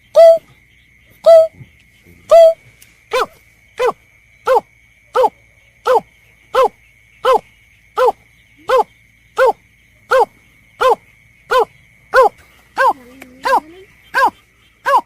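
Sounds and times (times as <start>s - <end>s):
recorded bird lure call: 0.0s - 15.0s.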